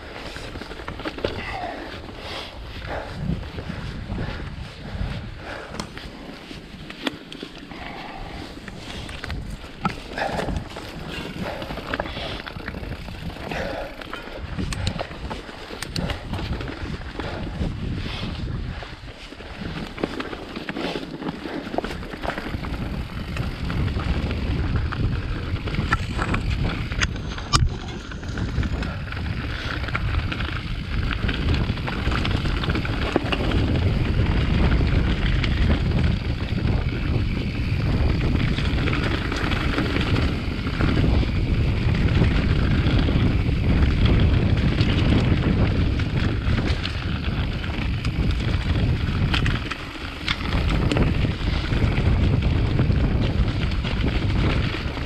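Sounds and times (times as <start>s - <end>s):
bike tyre and trail noise: 0.0s - 55.0s
wind buffeting microphone: 0.0s - 55.0s.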